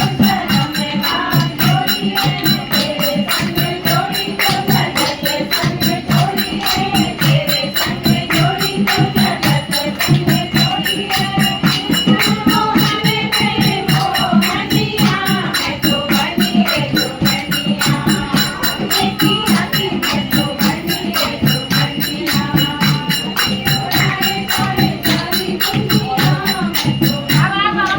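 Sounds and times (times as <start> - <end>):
fast percussion beat: 0.0 - 27.9
folk song singing: 0.0 - 27.9.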